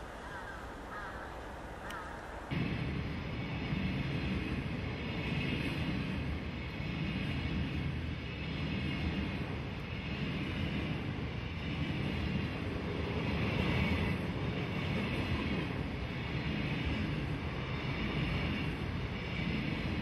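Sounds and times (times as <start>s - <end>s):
freight train wagons rumbling past: 0.0s - 20.0s.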